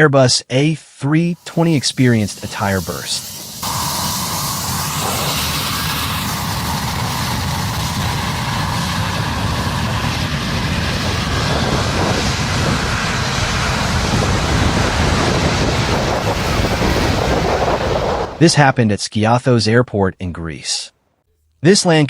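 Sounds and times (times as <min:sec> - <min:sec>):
jet engines and airflow rumble: 0:01.0 - 0:18.8.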